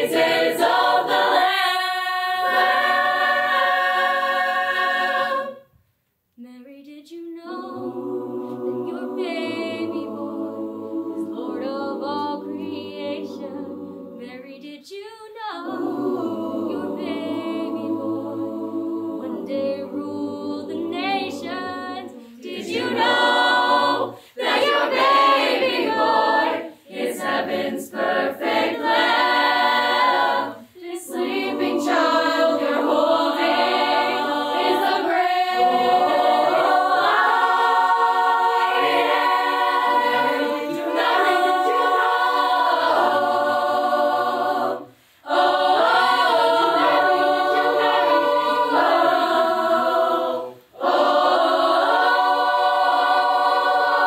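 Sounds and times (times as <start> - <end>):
choir singing in harmony: 0.0 - 5.8, 7.3 - 14.8, 15.5 - 54.0.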